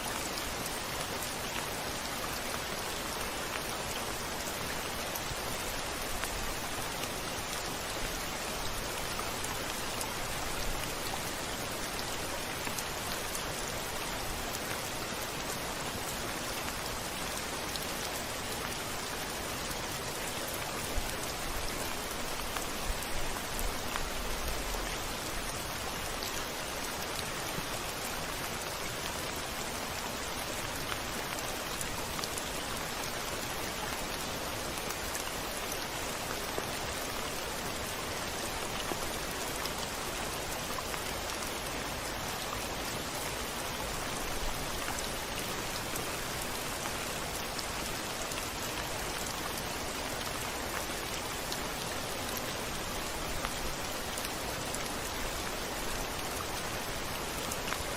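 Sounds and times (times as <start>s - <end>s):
rain against a window pane: 0.0s - 57.9s.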